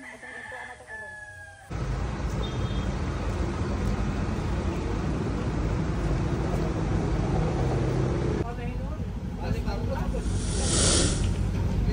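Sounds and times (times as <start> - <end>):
traffic rumble: 1.7 - 11.9.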